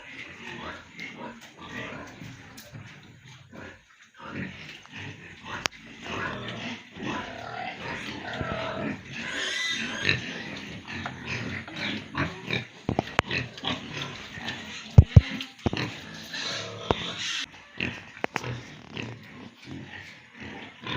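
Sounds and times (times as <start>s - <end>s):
pigs grunting and squealing: 0.0s - 20.9s.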